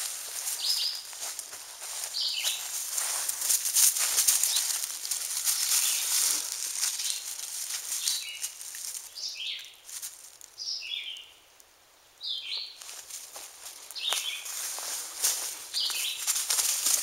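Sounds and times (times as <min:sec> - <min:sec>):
dry leaves rustling underfoot: 0:00.0 - 0:11.1, 0:12.5 - 0:17.0.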